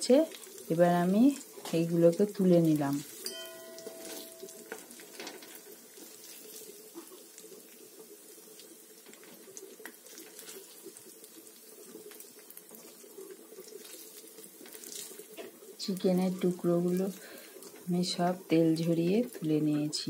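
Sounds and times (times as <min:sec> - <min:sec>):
hot oil sizzling with crackles: 0:00.0 - 0:20.0.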